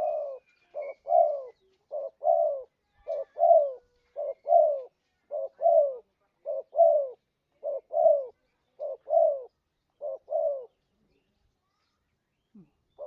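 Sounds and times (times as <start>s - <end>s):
dove cooing: 0.0s - 10.8s.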